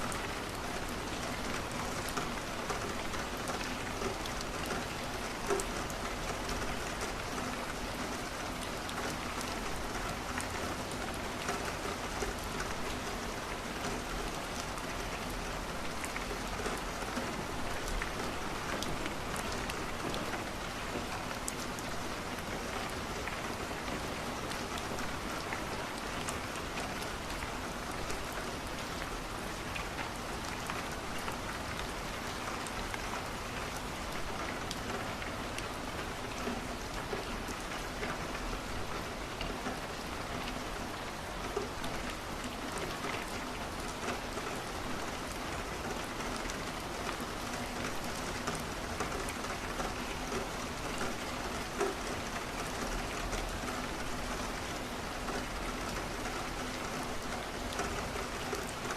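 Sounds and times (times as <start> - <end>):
rain on a window: 0.0 - 58.9.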